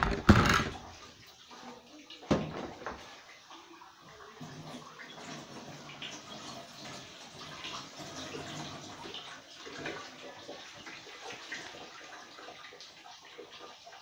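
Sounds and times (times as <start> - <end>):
water boiling in a pan: 0.0 - 14.0.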